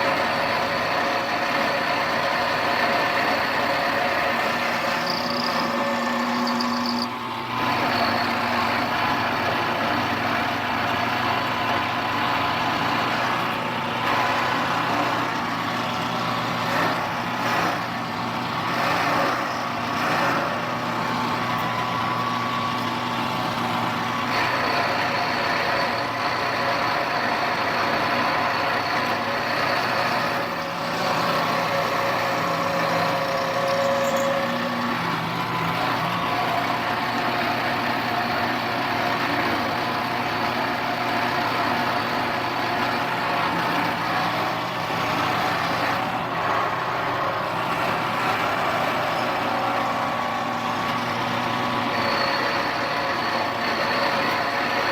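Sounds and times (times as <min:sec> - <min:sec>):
milling machine motor whine: 0:00.2 - 0:17.1, 0:18.6 - 0:54.9.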